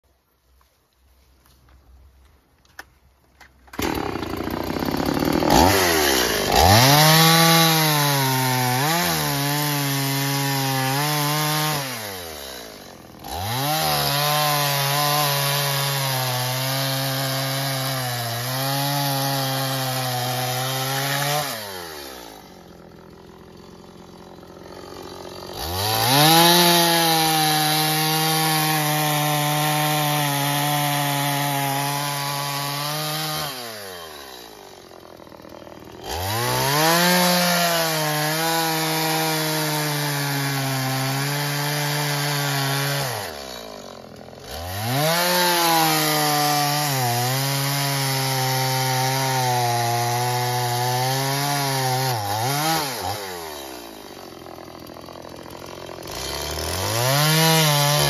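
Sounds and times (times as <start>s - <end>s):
chainsaw revving: 3.7s - 58.0s
chainsaw sawing through logs: 3.7s - 58.0s.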